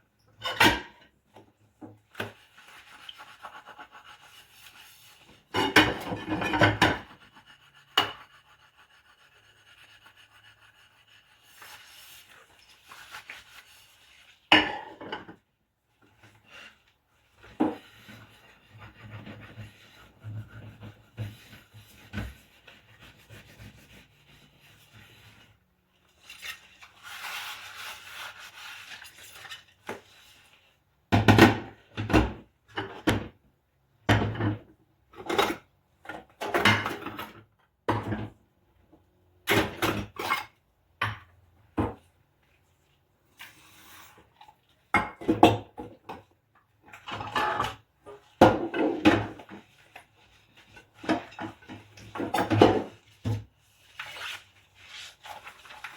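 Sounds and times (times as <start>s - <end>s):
scrubbing dishes with rubber gloves: 0.4s - 32.3s, 39.6s - 55.9s.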